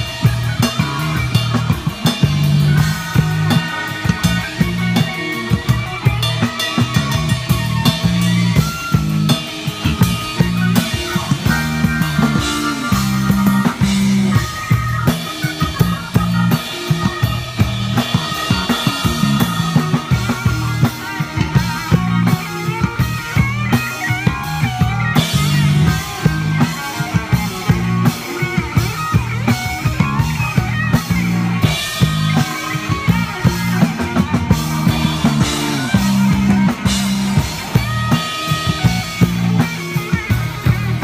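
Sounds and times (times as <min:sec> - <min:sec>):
drum kit: 0:00.0 - 0:41.0
electric bass guitar: 0:00.0 - 0:41.0
electric guitar: 0:00.0 - 0:41.0.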